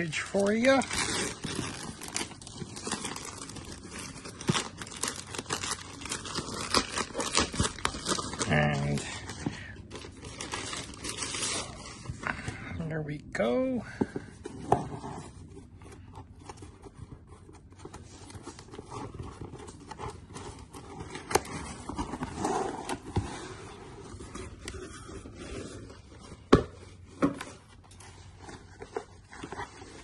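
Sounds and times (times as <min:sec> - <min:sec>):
cardboard box being opened: 0:00.3 - 0:12.2, 0:14.4 - 0:27.7.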